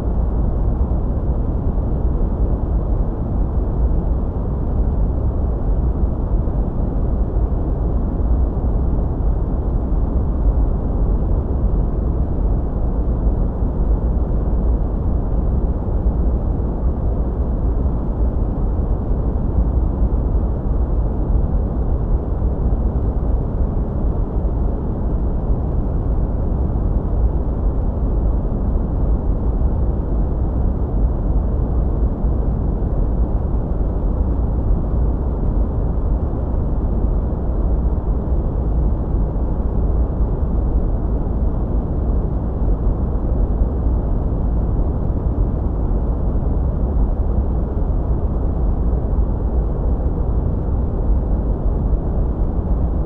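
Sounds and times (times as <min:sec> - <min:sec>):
deep hiss-rumble noise: 0:00.0 - 0:53.0.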